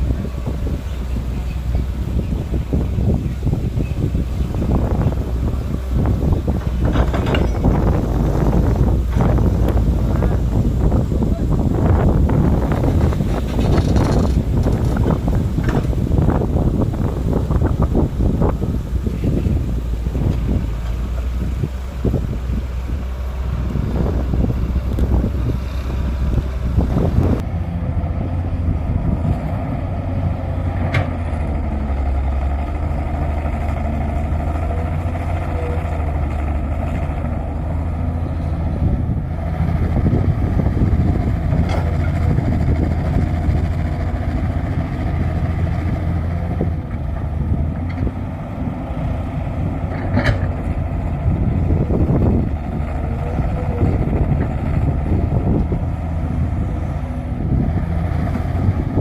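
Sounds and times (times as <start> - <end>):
excavator diesel engines running: 0.0 - 59.0.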